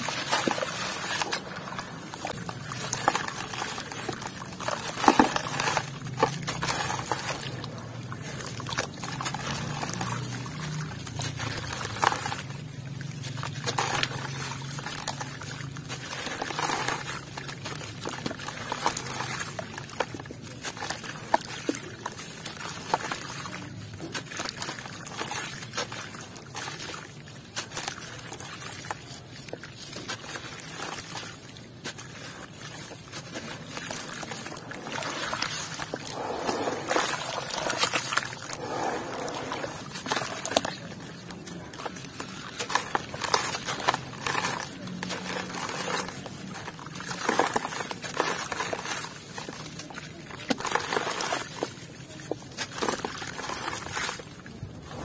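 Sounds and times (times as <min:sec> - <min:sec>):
water sloshing: 0:00.0 - 0:55.0
wet grit splashing into water: 0:00.0 - 0:55.0.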